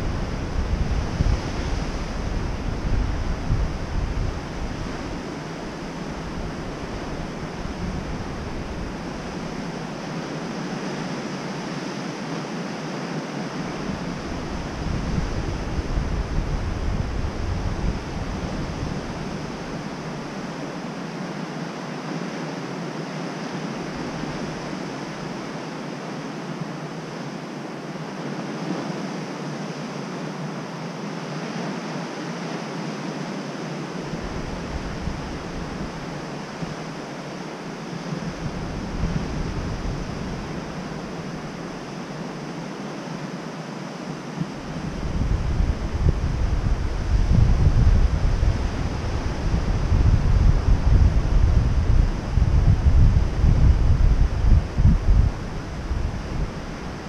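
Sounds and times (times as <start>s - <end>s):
wind gusting on microphone: 0.0s - 57.0s.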